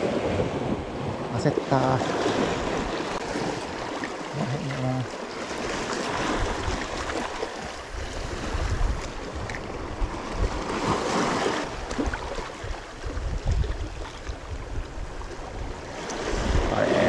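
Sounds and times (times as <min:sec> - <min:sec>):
wind buffeting microphone: 0:00.0 - 0:04.7, 0:05.5 - 0:17.0
sea waves washing: 0:00.0 - 0:17.0.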